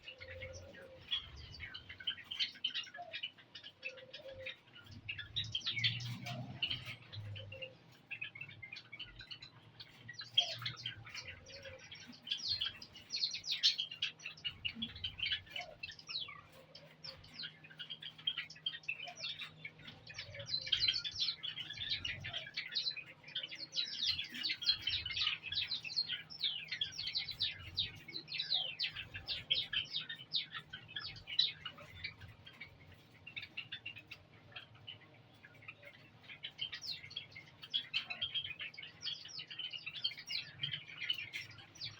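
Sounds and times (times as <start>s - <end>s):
sparrows chirping: 0.0s - 41.9s.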